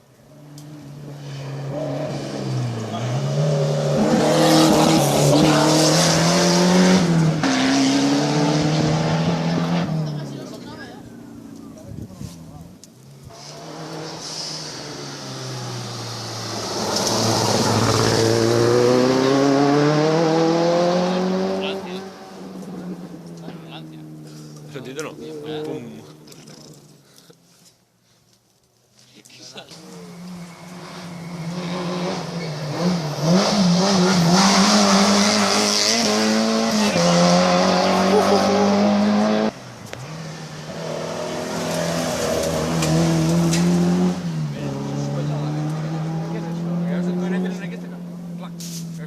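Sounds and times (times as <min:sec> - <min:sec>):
rally car engine accelerating: 0:00.3 - 0:11.9, 0:13.3 - 0:27.0, 0:29.6 - 0:49.0.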